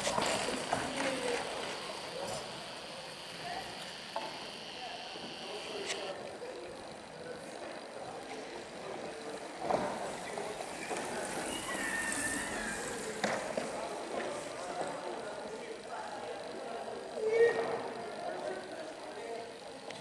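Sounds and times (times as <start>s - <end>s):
outdoor ambience: 0.0s - 18.8s
distant people talking: 0.0s - 20.0s.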